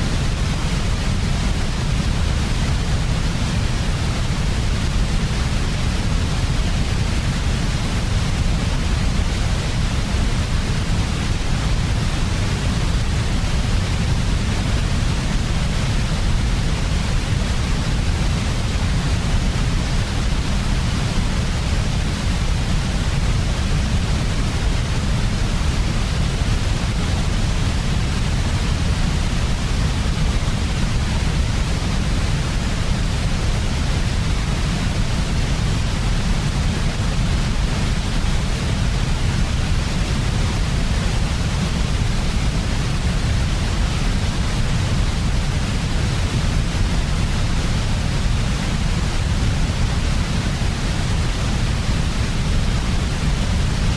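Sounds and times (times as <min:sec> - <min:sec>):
white noise hiss: 0:00.0 - 0:53.9.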